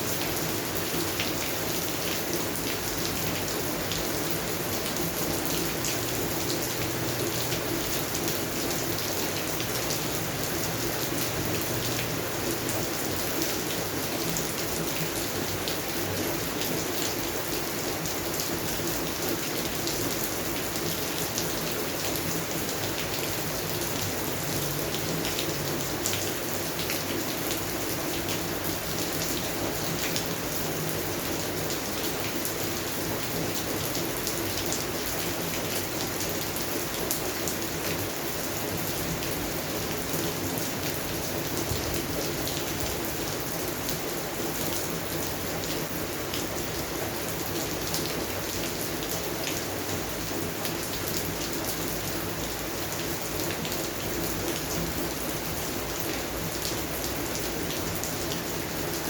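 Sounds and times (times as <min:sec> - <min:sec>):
rain falling on plants: 0:00.0 - 0:59.0.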